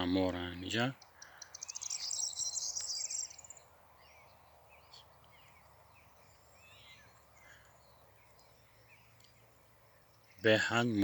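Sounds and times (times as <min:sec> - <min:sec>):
faint bird chirps: 0:00.7 - 0:11.0.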